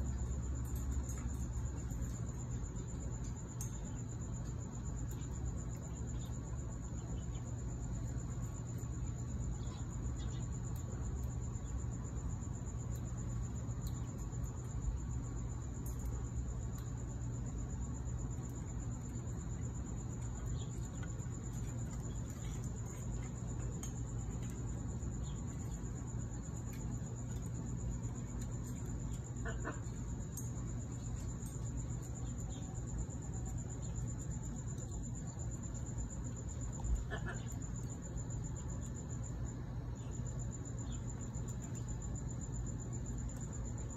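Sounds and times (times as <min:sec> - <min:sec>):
cricket trilling: 0:00.0 - 0:43.9
low background hum: 0:00.0 - 0:43.9
low background rumble: 0:00.0 - 0:43.9.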